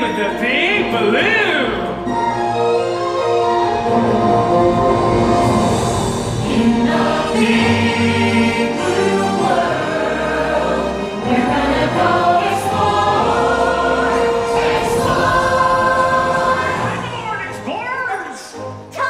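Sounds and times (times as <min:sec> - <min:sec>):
choir singing held notes: 0:00.7 - 0:17.6.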